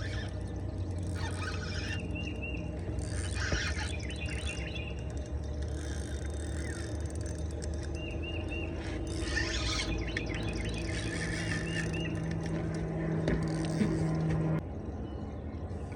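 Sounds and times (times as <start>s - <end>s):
small birds chirping: 0.0s - 14.2s
low outdoor rumble: 0.0s - 15.9s.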